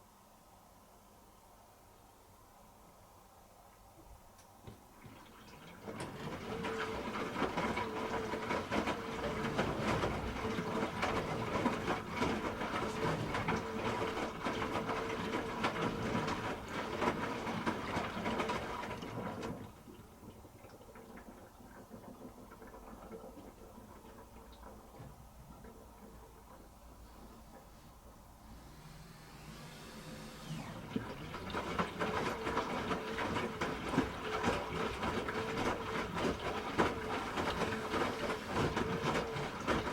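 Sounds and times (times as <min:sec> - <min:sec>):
washing machine running: 0:04.6 - 0:39.9.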